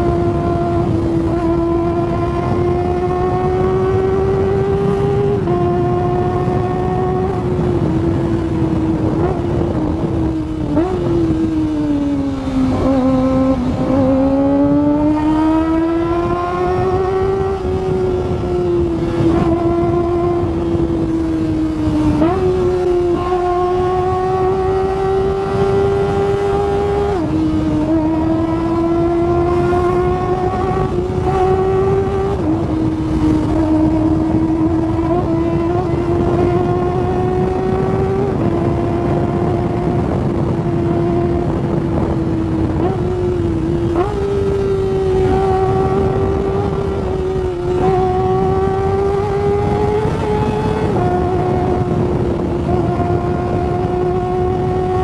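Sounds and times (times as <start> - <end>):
motorcycle engine revving high: 0.0 - 55.0.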